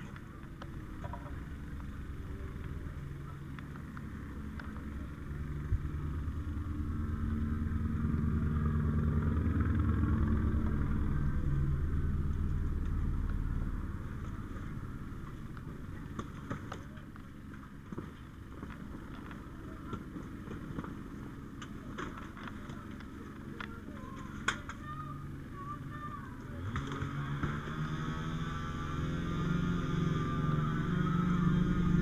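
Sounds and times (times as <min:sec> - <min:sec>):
motor engine humming: 0:00.0 - 0:32.0.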